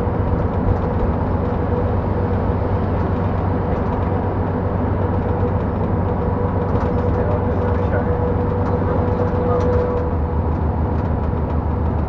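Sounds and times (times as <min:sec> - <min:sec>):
diesel locomotive drone: 0:00.0 - 0:12.0.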